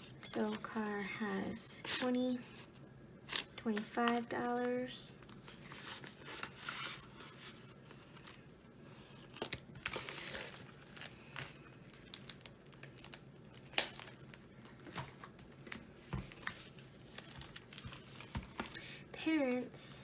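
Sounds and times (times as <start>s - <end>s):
banknotes rustling: 0.0s - 18.8s.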